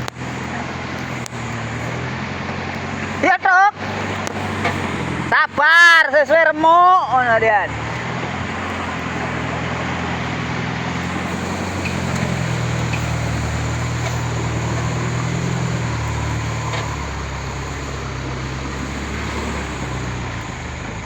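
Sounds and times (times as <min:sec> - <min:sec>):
truck engine running under load: 0:00.0 - 0:21.0.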